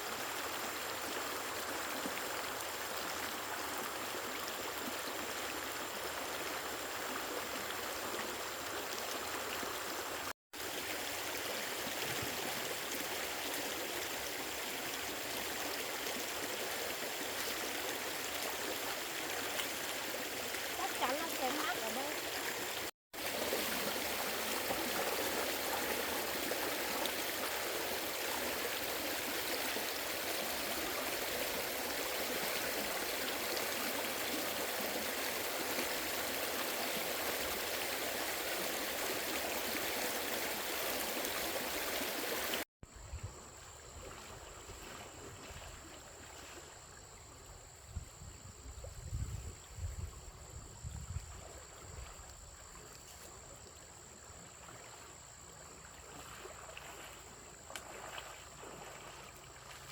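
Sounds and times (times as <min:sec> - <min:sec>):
rushing water: 0:00.0 - 0:42.7, 0:51.2 - 0:59.9.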